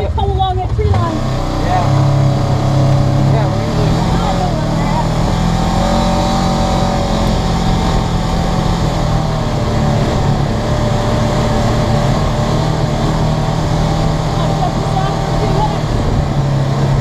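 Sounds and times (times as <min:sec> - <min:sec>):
engine running from inside cab: 0:00.0 - 0:17.0.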